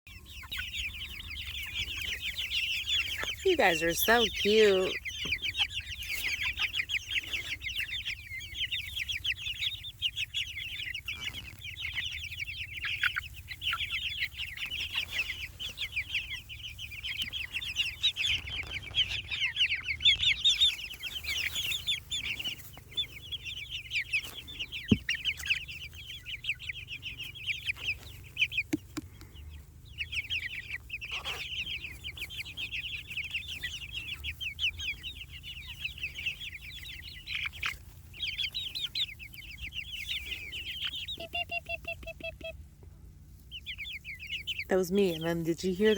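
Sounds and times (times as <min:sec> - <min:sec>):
chicks peeping: 0:00.1 - 0:45.9.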